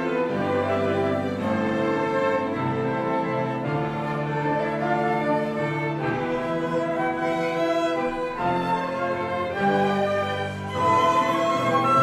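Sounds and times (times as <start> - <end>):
flute ensemble with violin: 0.0 - 12.0.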